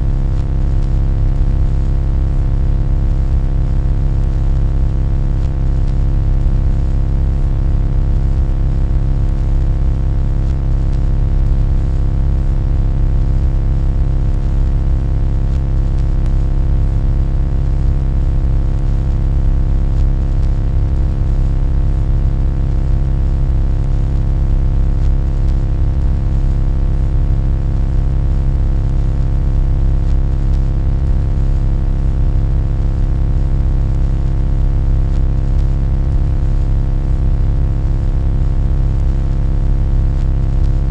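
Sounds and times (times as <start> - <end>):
low hum and rumble: 0.0 - 40.9.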